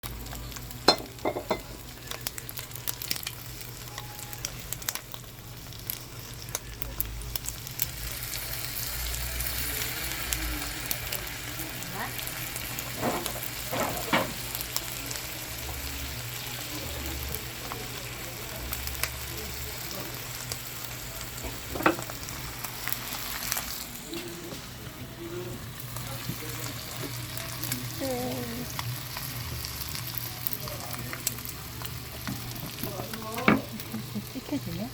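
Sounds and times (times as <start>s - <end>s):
chicken sizzling over a fire: 0.0s - 34.9s.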